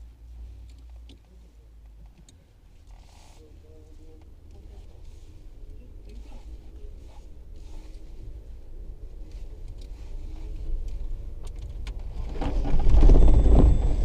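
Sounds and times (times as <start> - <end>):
car engine rumbling and revving: 0.0 - 14.0.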